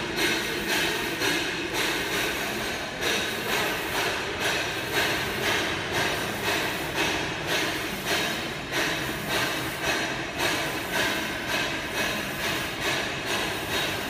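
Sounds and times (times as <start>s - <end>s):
printer carriage whirring: 0.0s - 14.0s.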